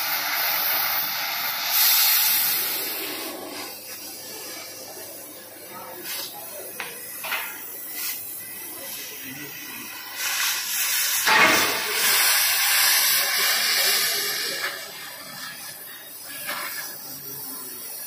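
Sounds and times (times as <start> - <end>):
cutting torch hissing: 0.0 - 18.0.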